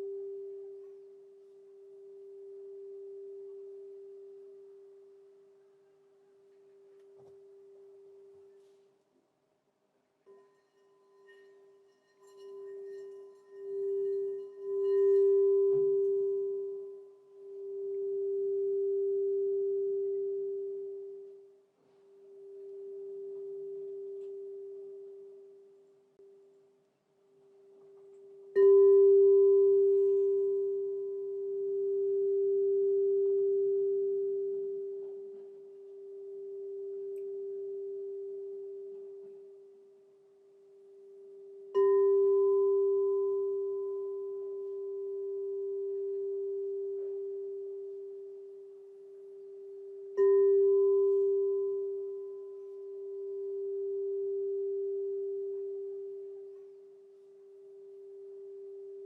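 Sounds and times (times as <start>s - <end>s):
crystal singing bowl ringing: 0.0s - 5.6s, 10.2s - 26.4s, 27.6s - 59.0s.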